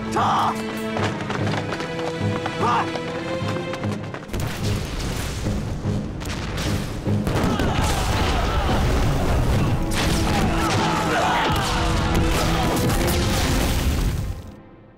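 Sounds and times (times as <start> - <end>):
dramatic background music: 0.0 - 14.9.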